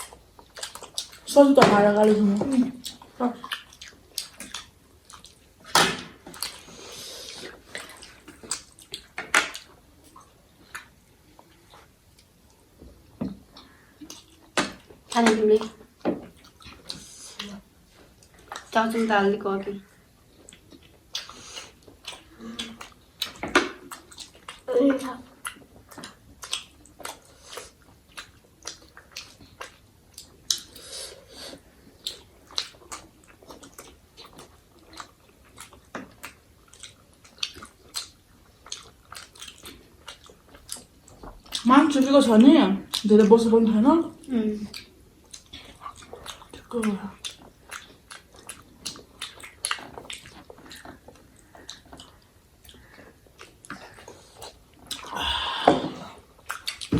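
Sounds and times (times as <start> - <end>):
people chewing food: 0.0 - 56.9.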